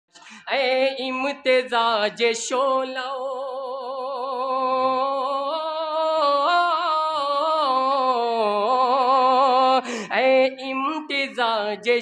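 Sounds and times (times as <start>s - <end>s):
man singing unaccompanied: 0.4s - 12.0s.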